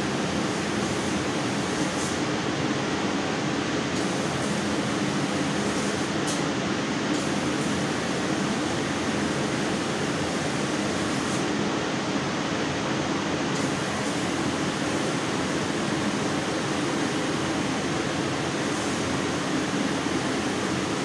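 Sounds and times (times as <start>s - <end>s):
laser cutting machine humming: 0.0s - 12.0s, 13.4s - 21.0s.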